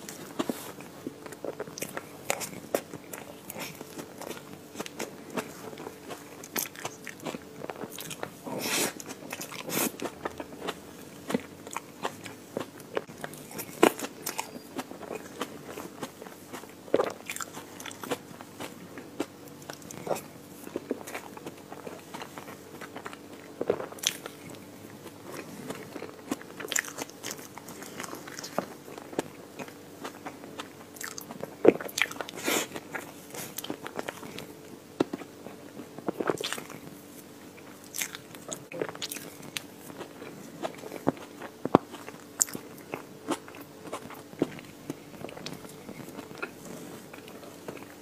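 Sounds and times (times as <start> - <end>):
faint steady hum: 0.0 - 48.0
wet chewing with crunchy crackles: 0.0 - 48.0.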